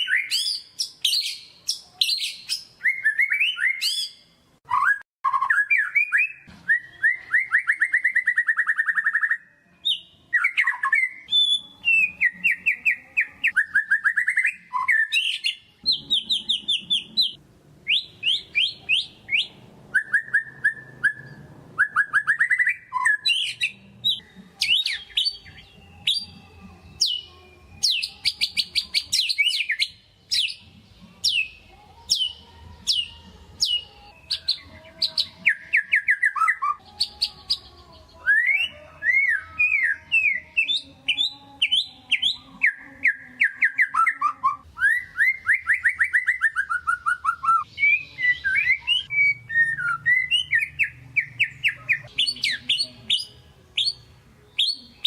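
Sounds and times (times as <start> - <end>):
bird singing whistles and trills: 0.0 - 26.4, 27.0 - 30.6, 31.2 - 55.0.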